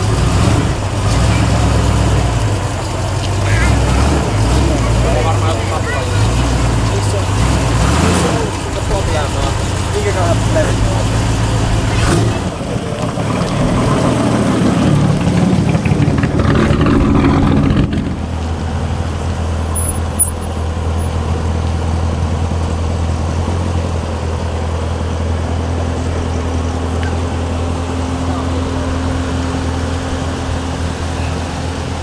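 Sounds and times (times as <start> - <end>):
car engine idling: 0.0 - 32.0
car engine revving: 0.0 - 32.0.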